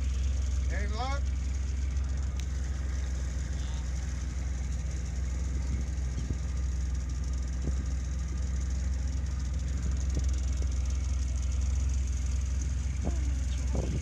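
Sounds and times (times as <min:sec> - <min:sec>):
boat motor droning: 0:00.0 - 0:14.0.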